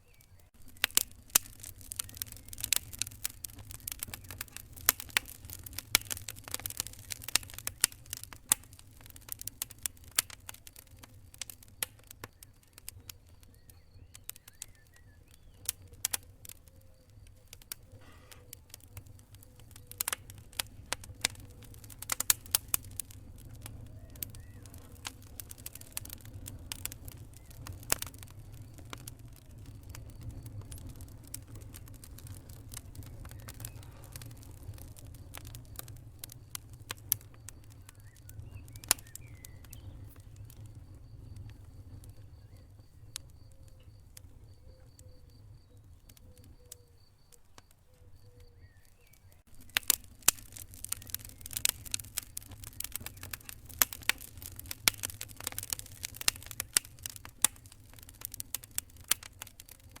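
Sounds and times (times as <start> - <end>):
low fire rumble: 0.0 - 60.0
wood fire crackling and popping: 0.0 - 60.0.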